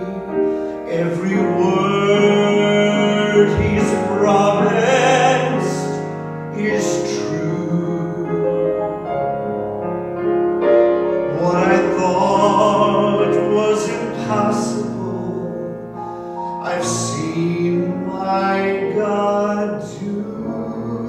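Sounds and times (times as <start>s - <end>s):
man singing slowly: 0.0s - 8.7s, 11.3s - 15.8s, 16.6s - 21.0s
grand piano: 0.0s - 21.0s.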